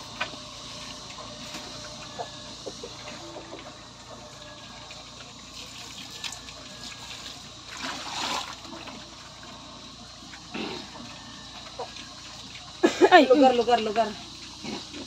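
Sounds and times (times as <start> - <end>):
pigs slurping wet feed: 0.0 - 15.0.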